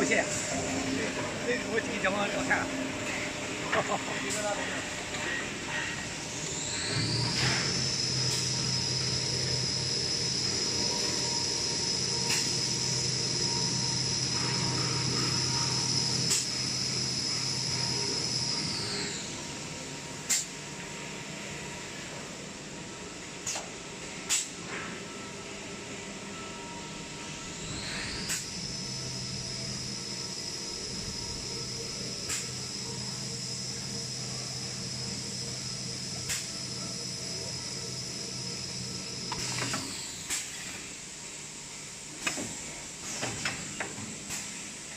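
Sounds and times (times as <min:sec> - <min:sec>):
machinery motor whine and hum: 0:00.0 - 0:44.9.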